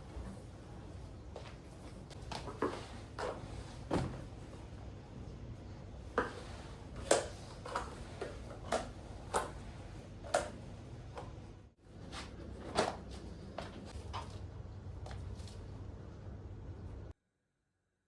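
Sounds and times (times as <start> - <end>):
low steady hum: 0.0 - 17.2.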